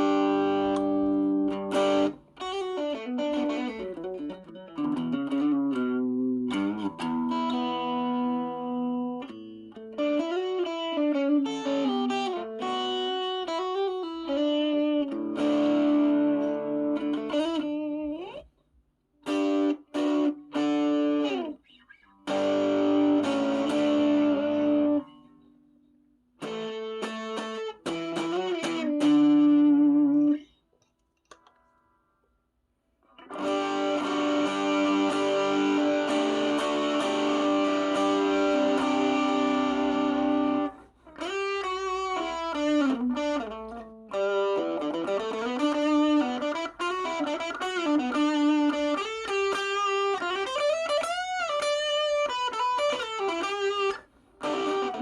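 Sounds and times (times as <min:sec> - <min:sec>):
overdriven electric guitar: 0:00.0 - 0:18.6, 0:19.2 - 0:30.6, 0:33.0 - 0:55.0.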